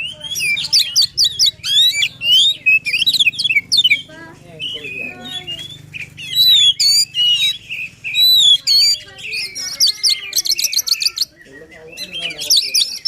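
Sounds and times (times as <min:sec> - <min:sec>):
bird chattering notes: 0:00.0 - 0:13.0
bird singing whistled phrases: 0:00.0 - 0:13.0.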